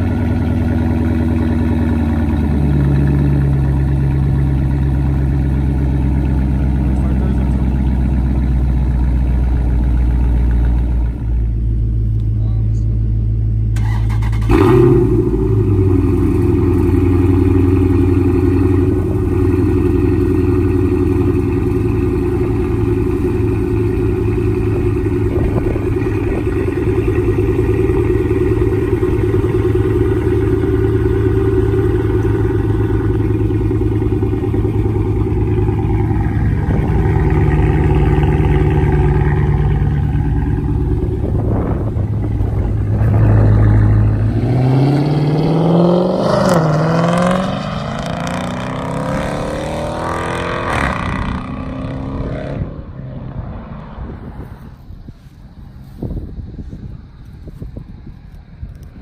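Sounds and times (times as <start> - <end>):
car engine starting and idling: 0.0 - 59.0.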